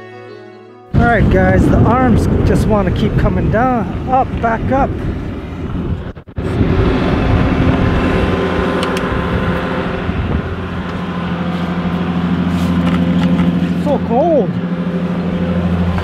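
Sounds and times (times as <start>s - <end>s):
diesel engine running steadily: 1.0s - 16.0s.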